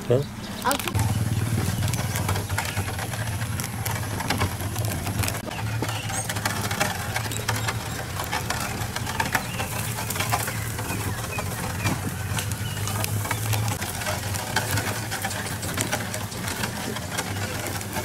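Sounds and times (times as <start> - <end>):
small engine running: 0.1 - 18.0
vehicle rattles and knocks: 0.1 - 18.0.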